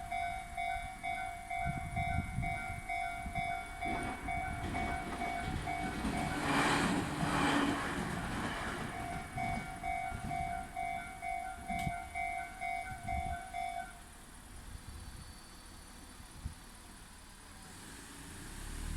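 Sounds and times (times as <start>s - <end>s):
train passing: 0.0s - 17.9s.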